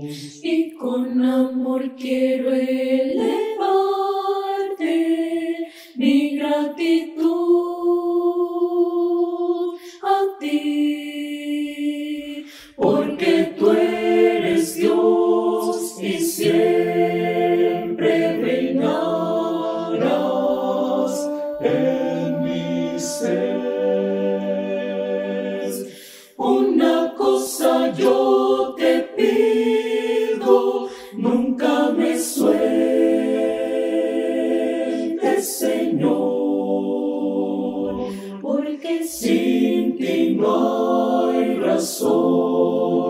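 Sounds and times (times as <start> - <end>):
mixed choir singing a hymn: 0.0 - 43.0.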